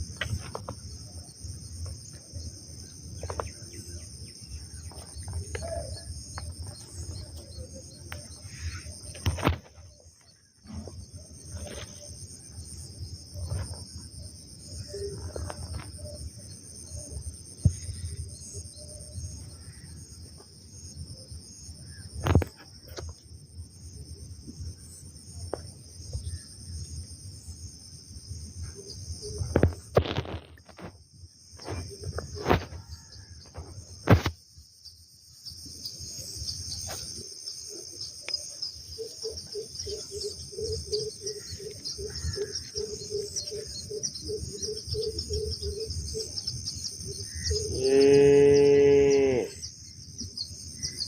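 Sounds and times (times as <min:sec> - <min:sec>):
insect chorus: 0:00.0 - 0:51.0.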